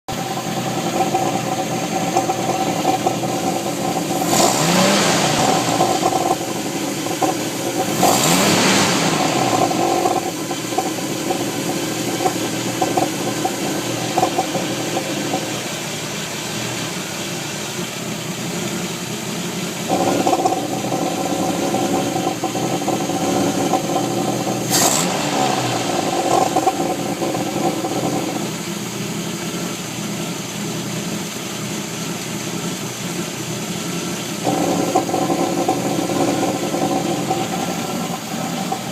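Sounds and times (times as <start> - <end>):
exhaust popping: 0.1 - 31.1, 32.6 - 38.9
car engine revving: 0.1 - 38.9.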